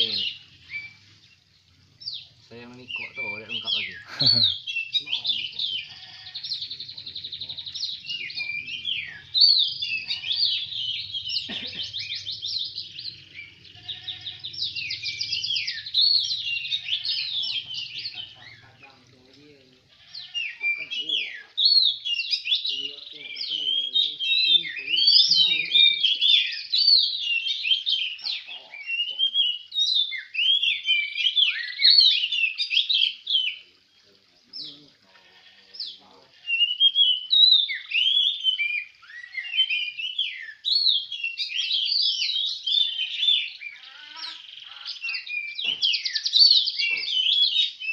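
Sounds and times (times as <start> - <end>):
birds singing: 0.0 - 47.9.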